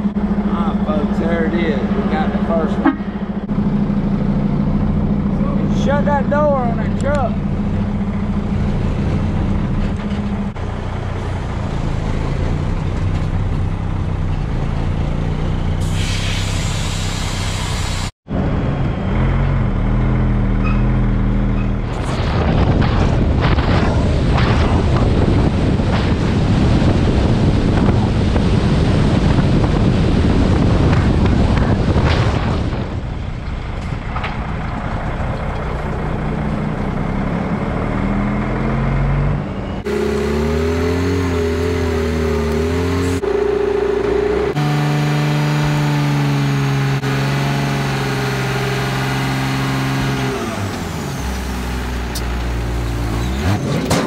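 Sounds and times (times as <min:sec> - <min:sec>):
truck engine humming: 0:00.0 - 0:22.0, 0:22.6 - 0:54.0
road noise while driving: 0:00.0 - 0:54.0.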